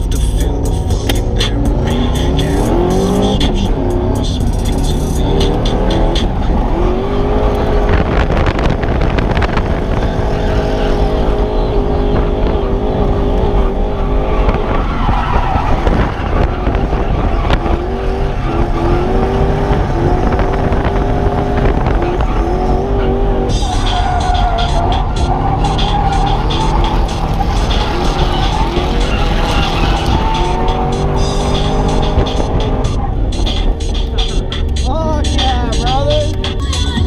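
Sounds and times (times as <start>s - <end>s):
car engine revving: 0.0s - 37.0s
tyres skidding and squealing: 0.0s - 37.0s.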